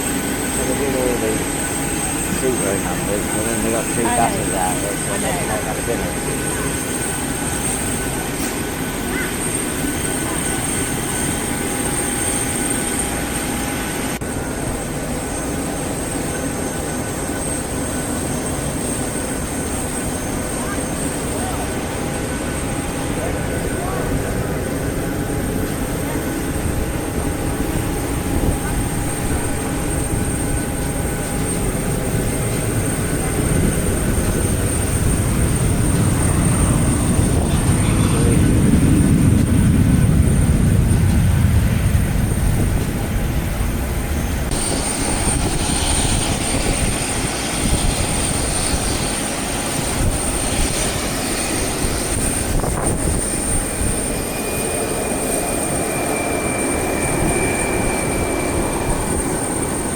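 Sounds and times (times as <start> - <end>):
high steady whine: 0.0 - 59.9
rumble of aircraft engines: 0.0 - 59.9.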